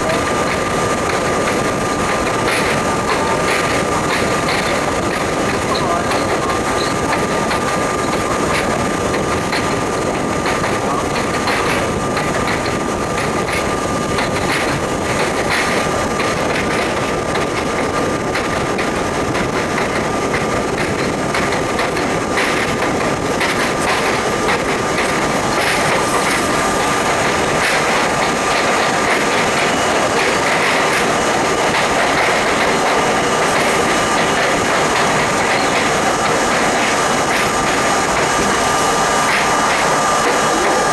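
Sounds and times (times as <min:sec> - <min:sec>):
constant high hum: 0:00.0 - 0:40.9
subway train rumbling: 0:00.0 - 0:40.9
wheels clicking over rail joints: 0:00.0 - 0:40.9.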